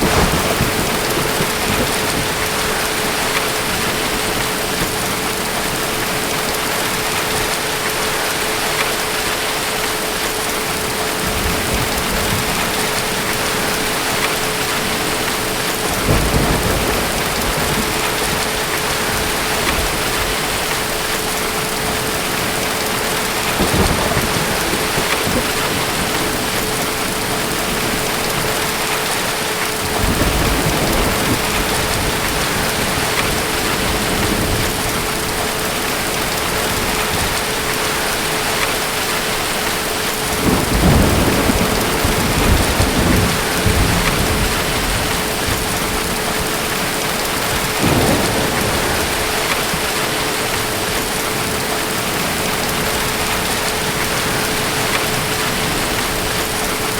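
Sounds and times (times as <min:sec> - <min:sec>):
distant thunder rolling: 0:00.0 - 0:07.6, 0:10.7 - 0:56.8
heavy rain: 0:00.0 - 0:56.9.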